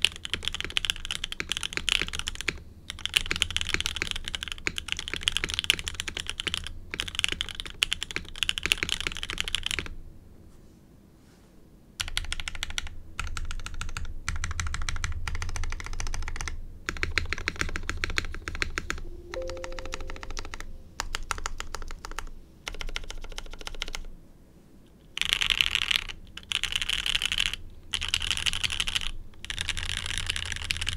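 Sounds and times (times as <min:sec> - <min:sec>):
typing on mechanical keyboard: 0:00.0 - 0:10.0, 0:12.0 - 0:19.0, 0:19.7 - 0:24.1, 0:25.2 - 0:30.9.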